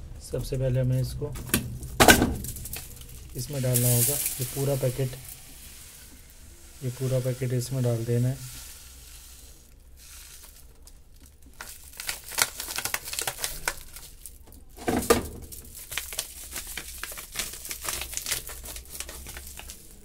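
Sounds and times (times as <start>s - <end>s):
powder packet crinkling and rustling: 1.3s - 6.2s, 6.8s - 20.0s.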